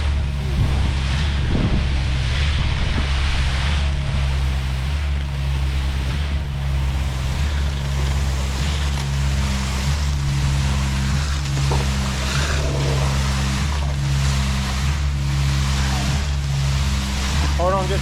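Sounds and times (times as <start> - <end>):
continuous rushing noise: 0.0 - 18.0
diesel engine running: 0.0 - 18.0.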